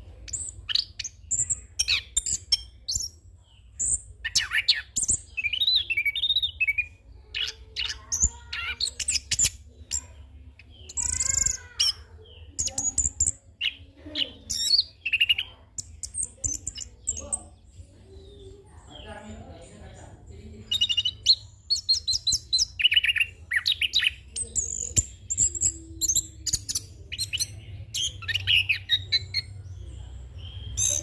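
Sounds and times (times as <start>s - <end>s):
bird singing varied song: 0.0s - 31.0s.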